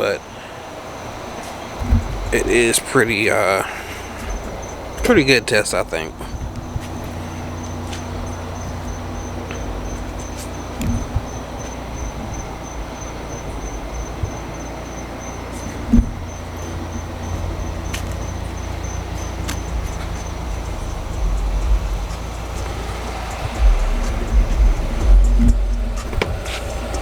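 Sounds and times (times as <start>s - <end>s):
car rumble while moving: 0.0s - 27.0s
faint high pulsing chirp: 0.0s - 27.0s
soft thumps: 0.0s - 27.0s.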